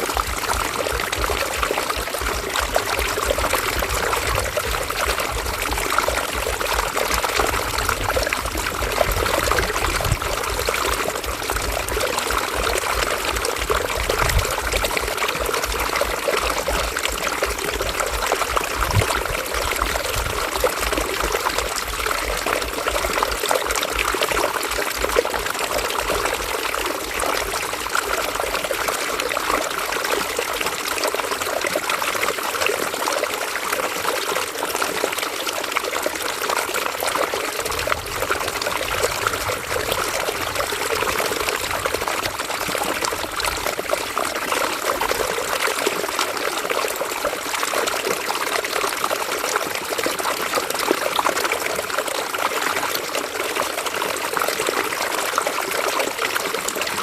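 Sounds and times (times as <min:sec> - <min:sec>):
river babbling over stones: 0:00.0 - 0:57.0.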